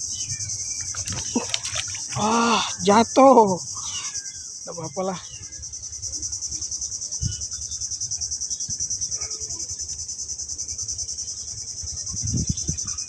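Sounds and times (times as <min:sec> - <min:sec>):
insect chorus chirring: 0:00.0 - 0:13.0.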